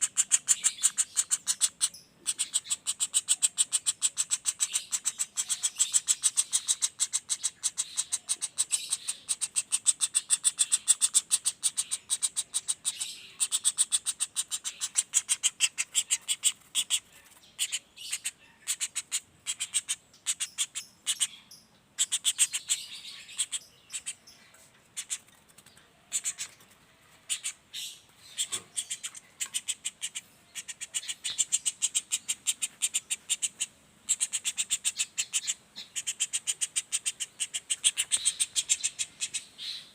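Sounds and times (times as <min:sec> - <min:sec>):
woodpecker rattle call: 0:00.0 - 0:25.4, 0:26.0 - 0:39.9.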